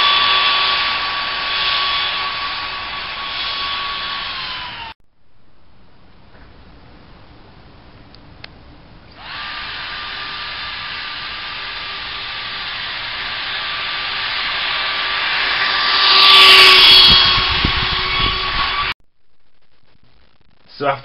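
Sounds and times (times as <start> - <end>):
electric fan whining: 0.0 - 5.0, 6.7 - 19.0.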